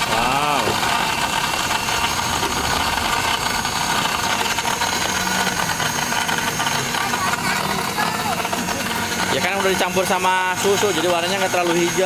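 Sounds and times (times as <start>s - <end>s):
motor running with rattling hum: 0.0s - 12.0s.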